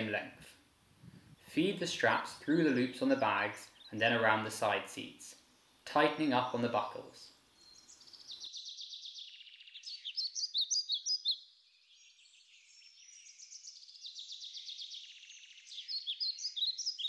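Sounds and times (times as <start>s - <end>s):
songbirds chirping and trilling: 0.9s - 17.0s.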